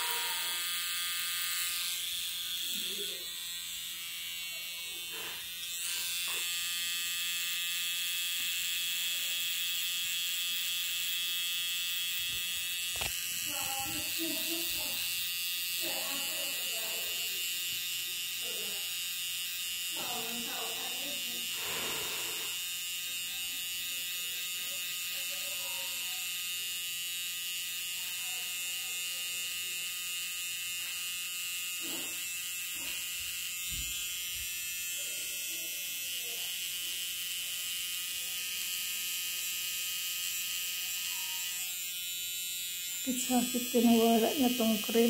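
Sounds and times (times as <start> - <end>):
tattoo machine buzzing: 0.0 - 45.0.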